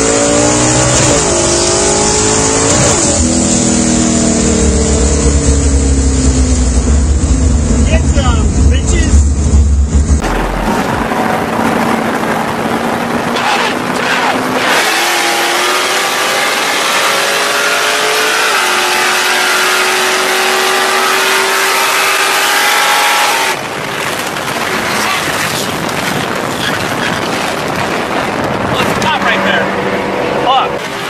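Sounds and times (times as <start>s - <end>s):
car engine accelerating: 0.0s - 31.0s
wind and road noise: 0.0s - 31.0s.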